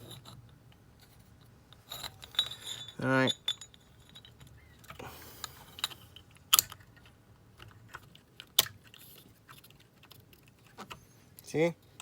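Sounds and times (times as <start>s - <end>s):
small parts ticking when handled: 1.4s - 12.0s.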